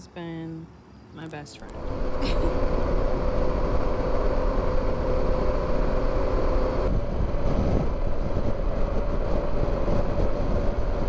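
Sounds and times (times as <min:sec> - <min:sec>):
road noise: 0:01.3 - 0:11.0
motorcycle engine hum: 0:01.7 - 0:11.0
wind rush: 0:01.7 - 0:11.0.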